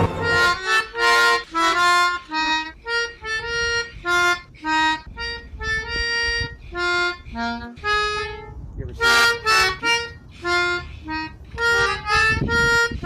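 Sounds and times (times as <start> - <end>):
harmonica melody: 0.0 - 13.0.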